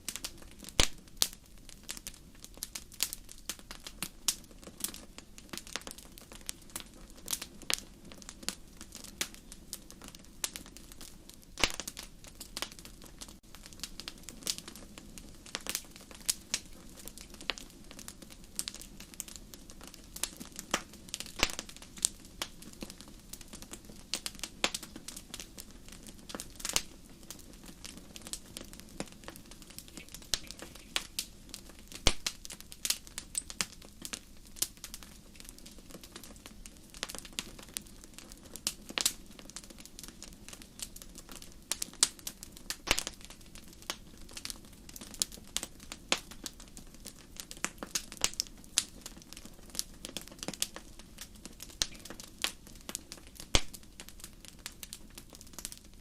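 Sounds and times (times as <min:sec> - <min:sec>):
low hiss of burning: 0:00.0 - 0:56.0
wood fire crackling and popping: 0:00.0 - 0:56.0.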